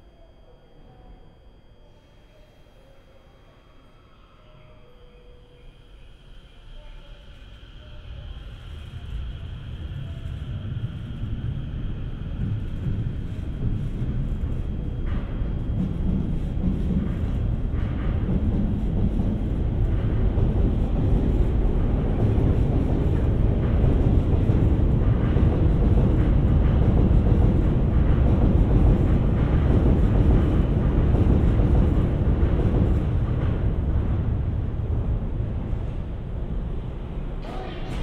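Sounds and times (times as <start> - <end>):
train wheels rumbling on track: 7.3 - 38.0.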